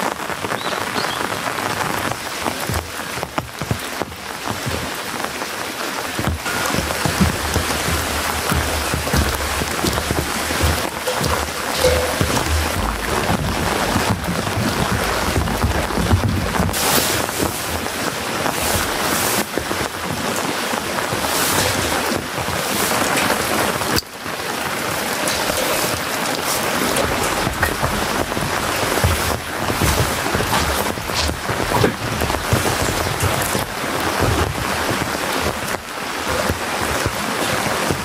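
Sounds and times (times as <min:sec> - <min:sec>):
loud rain falling: 0:00.0 - 0:38.0.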